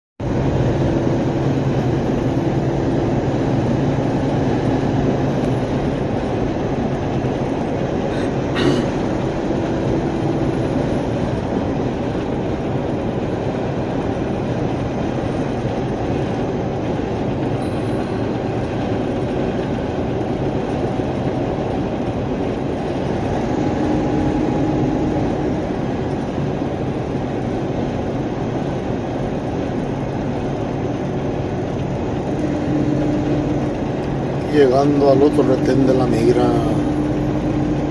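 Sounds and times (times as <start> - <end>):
truck engine and road drone: 0.2 - 37.9.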